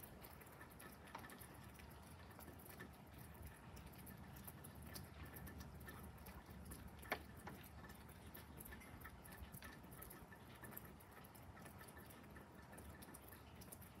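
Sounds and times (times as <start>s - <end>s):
faint irregular ticks and clicks: 0.0s - 14.0s.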